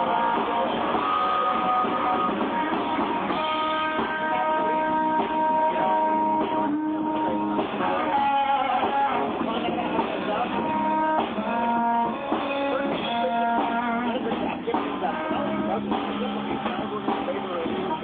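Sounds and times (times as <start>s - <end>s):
guitar notes strummed: 0.0s - 18.0s
live rock band playing: 0.0s - 18.0s.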